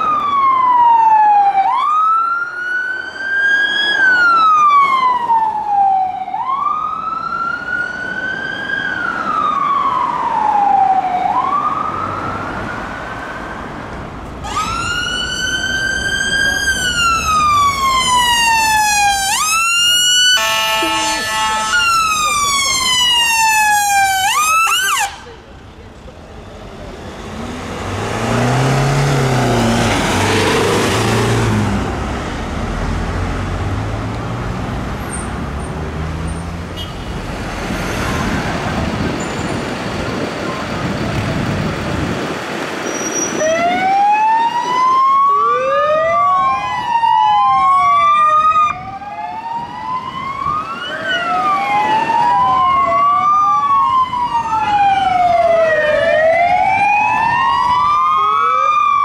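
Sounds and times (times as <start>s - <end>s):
police sirens wailing: 0.0s - 36.3s, 43.3s - 59.0s
ambulance passing with road noise: 0.0s - 59.0s.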